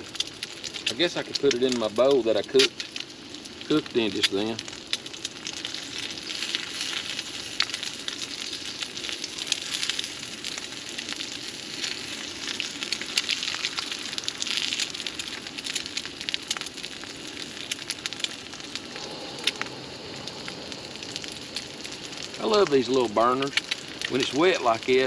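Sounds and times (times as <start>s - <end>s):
crackles and pops: 0.0s - 25.0s
food sizzling in a skillet: 0.0s - 25.0s.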